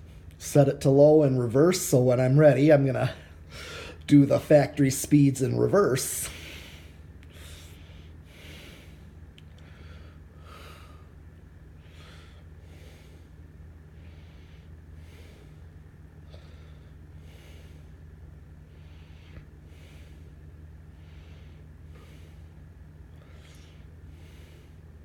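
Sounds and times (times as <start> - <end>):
ceiling fan motor hum: 0.0 - 25.0.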